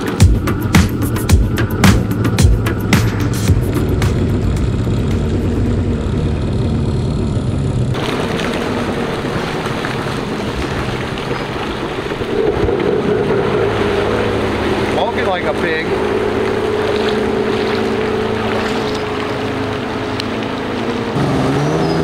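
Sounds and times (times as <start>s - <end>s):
jet ski engine running: 0.0s - 22.0s
water noise: 0.0s - 22.0s.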